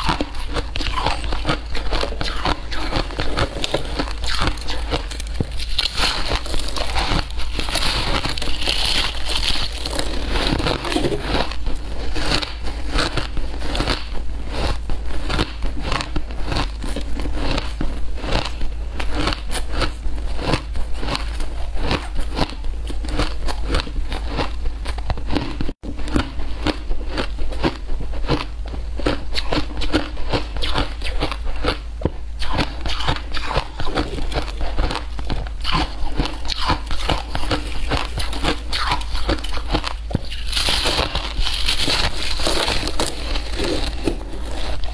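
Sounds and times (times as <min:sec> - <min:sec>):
ice being chewed: 0:00.0 - 0:31.8, 0:32.4 - 0:44.9.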